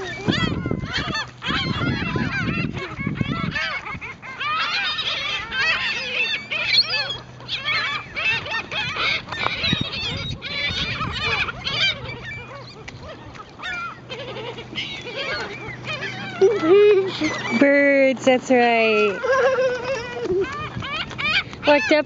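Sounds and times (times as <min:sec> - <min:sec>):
seagulls calling: 0:00.0 - 0:22.0.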